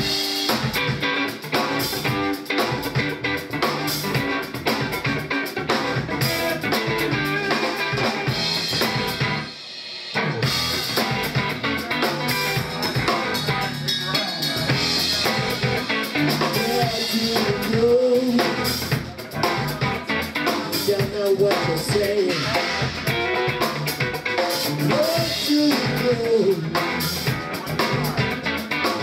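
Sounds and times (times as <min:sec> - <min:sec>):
live band playing: 0:00.0 - 0:29.0.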